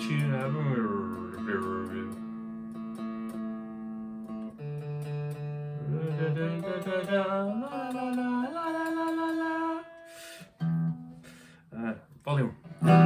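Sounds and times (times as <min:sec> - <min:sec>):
clean electric guitar: 0:00.0 - 0:11.9, 0:12.5 - 0:13.0.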